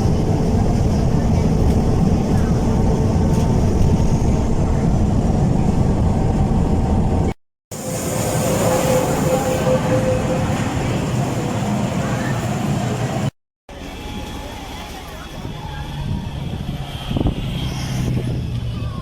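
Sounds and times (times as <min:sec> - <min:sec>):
moving vehicle rumble: 0:00.0 - 0:19.0.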